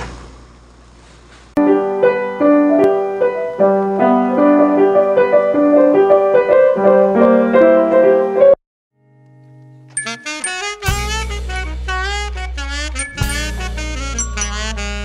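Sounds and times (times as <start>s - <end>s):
grand piano playing: 1.6s - 8.6s, 10.0s - 15.0s.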